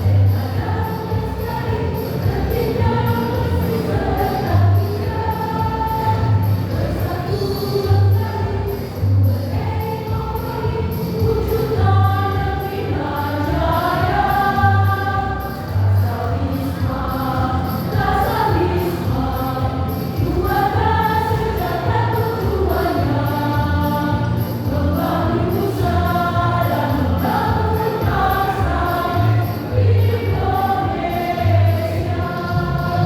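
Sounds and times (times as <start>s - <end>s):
choir singing: 0.0s - 33.0s.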